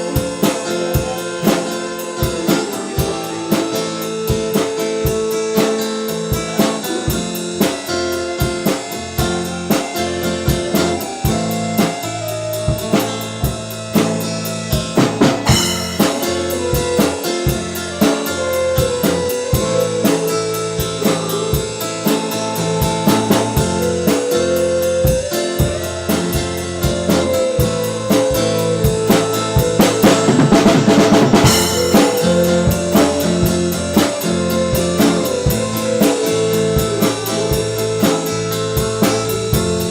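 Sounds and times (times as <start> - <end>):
band playing instrumental: 0.0 - 39.9
cymbals: 0.0 - 39.9
drum kit steady beat: 0.0 - 39.9
lead guitar line: 0.0 - 39.9.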